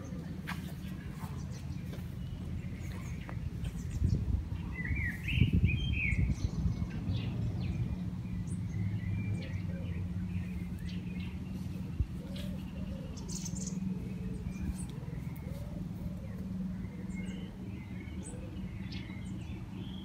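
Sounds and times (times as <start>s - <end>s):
birds chirping and calling: 0.0s - 20.0s
steady low hum: 0.0s - 20.0s.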